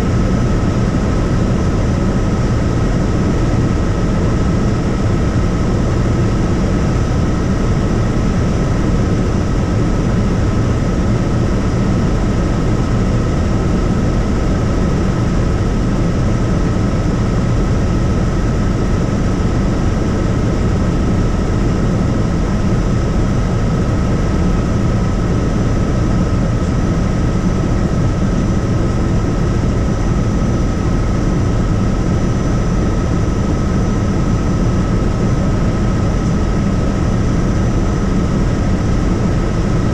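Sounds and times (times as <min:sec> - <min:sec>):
helicopter drone with high whine: 0:00.0 - 0:39.9.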